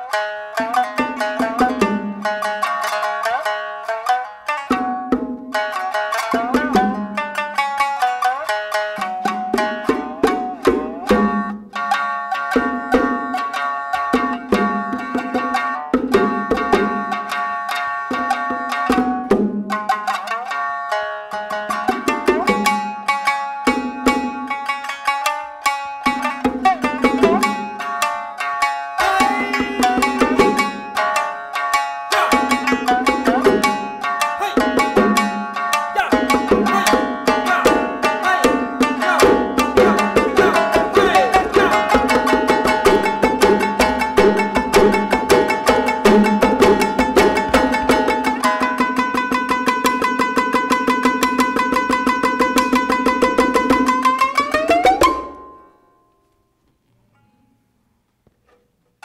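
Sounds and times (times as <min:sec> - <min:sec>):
shamisen plucking: 0:00.0 - 0:57.6.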